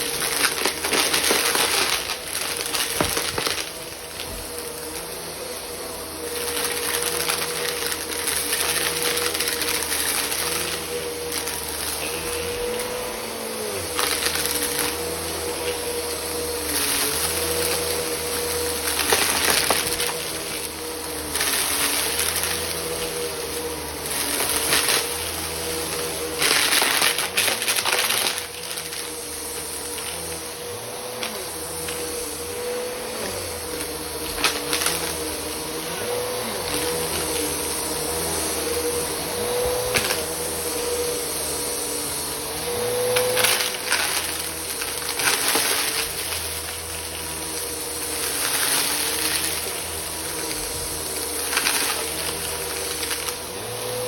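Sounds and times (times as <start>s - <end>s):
vacuum cleaner crunching: 0.0s - 54.0s
vacuum cleaner motor whine: 0.0s - 54.0s.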